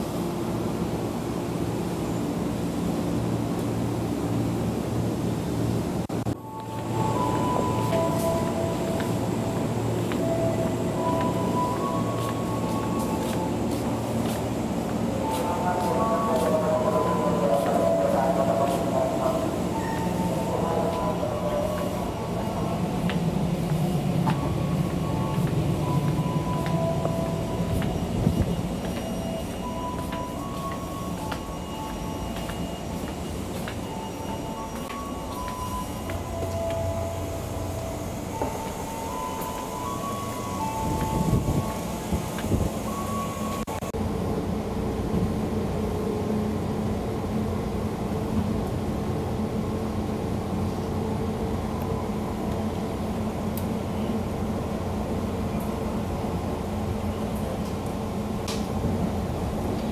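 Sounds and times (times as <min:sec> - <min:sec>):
train car low hum: 0:00.0 - 0:59.9.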